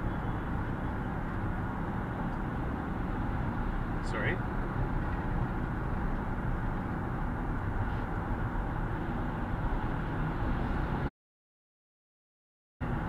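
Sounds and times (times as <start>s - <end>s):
car engine hum: 0.0s - 11.1s
road and tyre noise: 0.0s - 11.1s, 12.8s - 13.0s.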